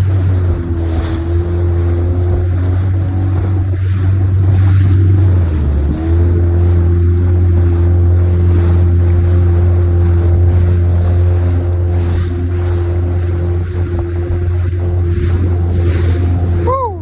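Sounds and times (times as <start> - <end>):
boat motor droning: 0.0 - 17.0
wind on microphone: 0.0 - 17.0.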